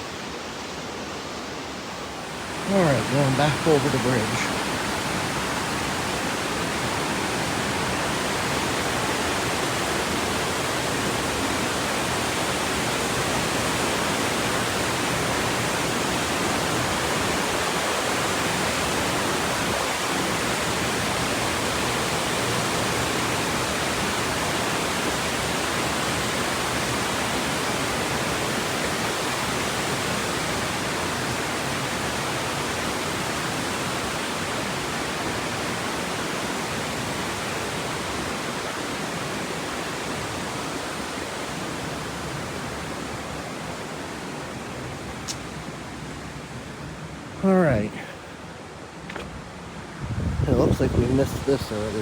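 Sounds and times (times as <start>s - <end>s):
creek water rushing over rocks: 0.0s - 52.0s.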